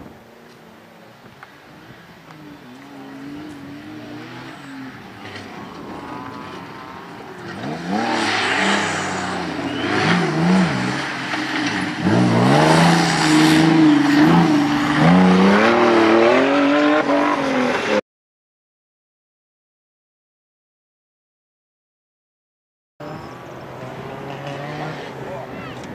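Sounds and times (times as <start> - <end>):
race car engines revving: 0.0 - 18.0, 23.0 - 25.9.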